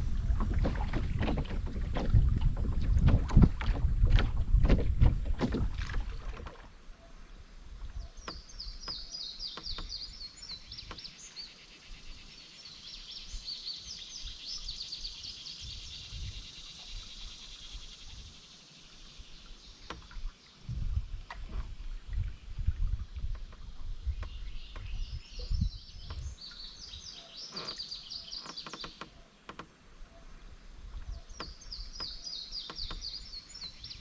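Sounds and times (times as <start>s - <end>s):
quiet river ambience: 0.0s - 34.0s
songbird singing: 5.5s - 34.0s.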